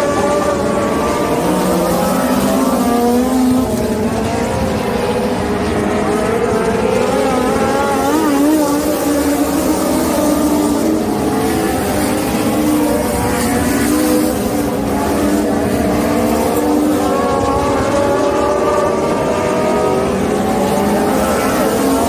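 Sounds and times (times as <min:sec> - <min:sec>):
race car engines circling: 0:00.0 - 0:22.0.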